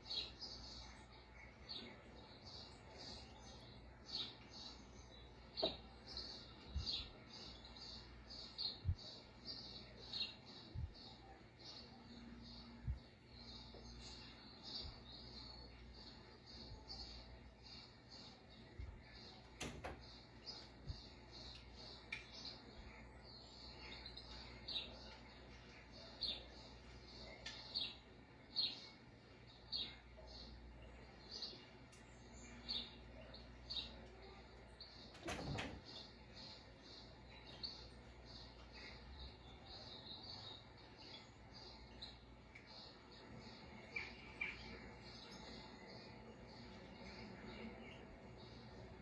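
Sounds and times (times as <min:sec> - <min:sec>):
faint high chirps from tv: 0:00.0 - 0:49.0.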